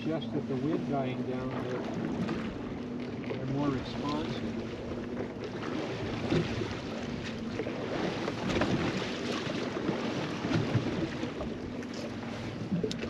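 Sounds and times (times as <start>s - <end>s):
water lapping against boat hull: 0.0s - 13.0s
small knocks on boat: 0.7s - 13.0s.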